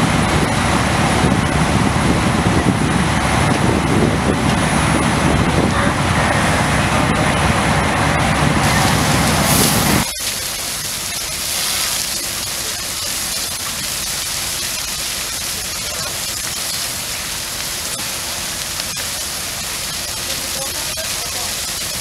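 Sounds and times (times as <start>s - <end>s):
fire truck engine running: 0.0s - 22.0s
hose stream spraying water: 0.0s - 22.0s.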